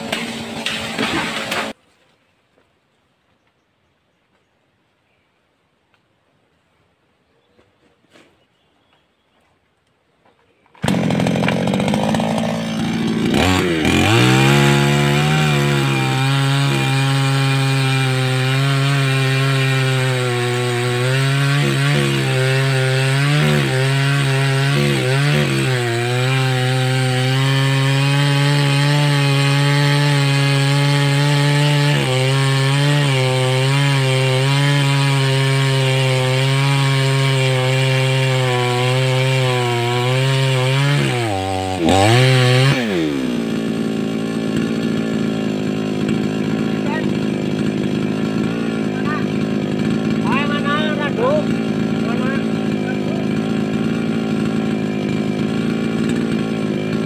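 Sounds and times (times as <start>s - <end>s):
chainsaw cutting wood: 0.0s - 1.8s, 10.7s - 57.0s.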